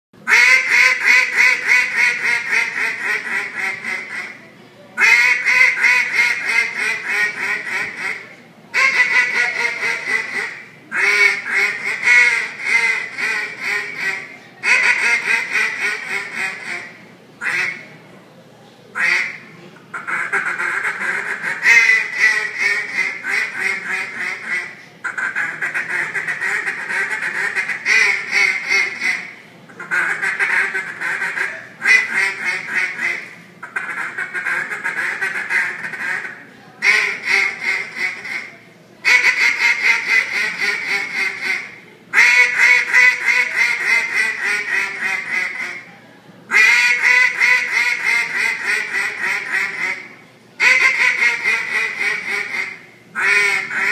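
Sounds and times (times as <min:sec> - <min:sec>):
duck call rapid quacks: 0:00.2 - 0:04.4, 0:05.0 - 0:17.8, 0:19.0 - 0:45.9, 0:46.5 - 0:53.9.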